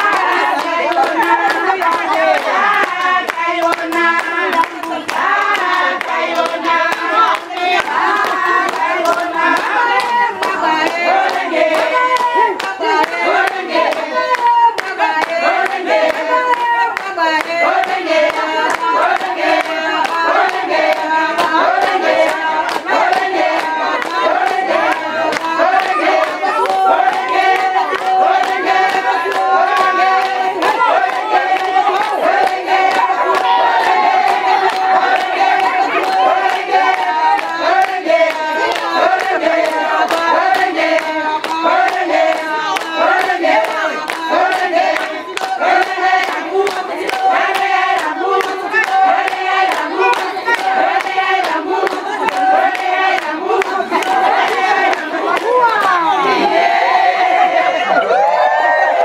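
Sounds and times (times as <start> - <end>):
rhythmic hand claps: 0.0 - 57.8
group singing in chorus: 0.0 - 59.0.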